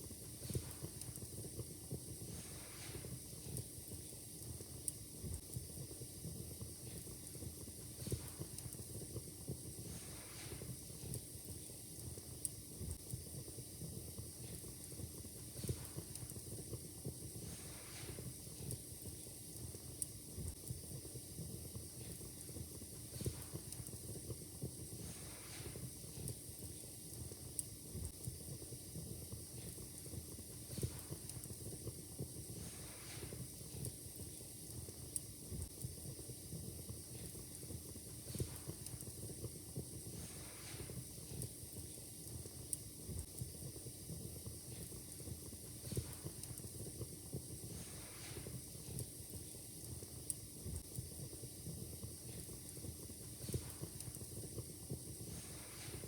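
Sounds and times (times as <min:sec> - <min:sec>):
fire hissing: 0:00.0 - 0:56.0
wood fire crackling: 0:00.0 - 0:56.0.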